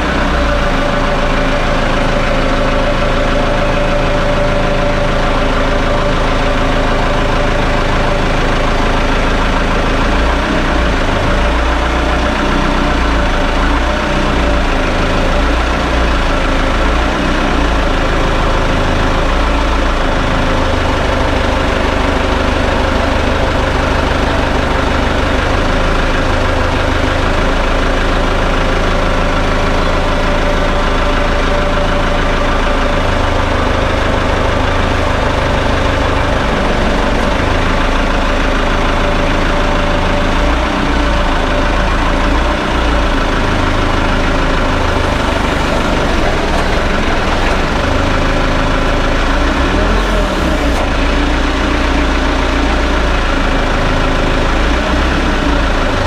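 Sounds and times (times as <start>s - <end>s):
heavy vehicle engine drone: 0.0s - 56.0s.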